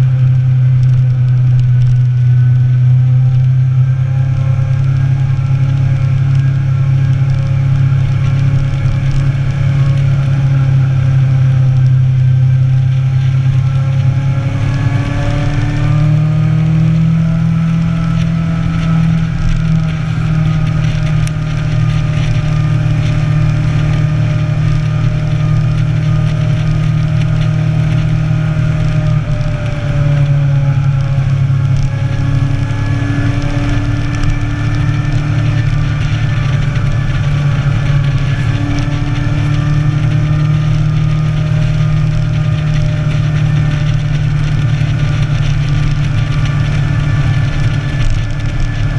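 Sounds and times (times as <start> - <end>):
motorcycle engine running: 0.0 - 48.9
wind rushing over microphone: 0.0 - 48.9.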